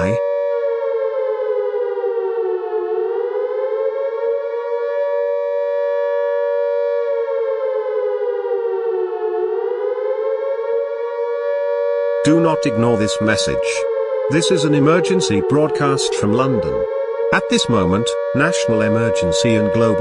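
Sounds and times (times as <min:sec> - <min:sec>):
civil defense siren wailing: 0:00.0 - 0:20.0.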